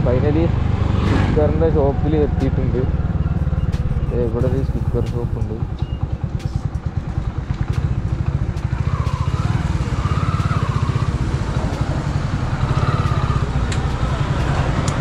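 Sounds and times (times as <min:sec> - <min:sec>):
motorcycle engine puttering: 0:02.2 - 0:15.0.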